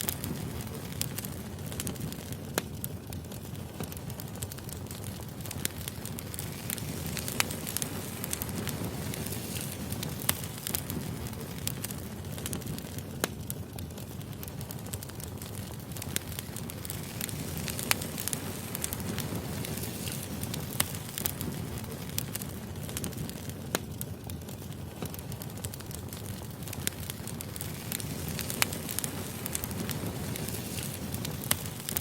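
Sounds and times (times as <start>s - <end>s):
firewood burning and crackling: 0.0s - 32.0s.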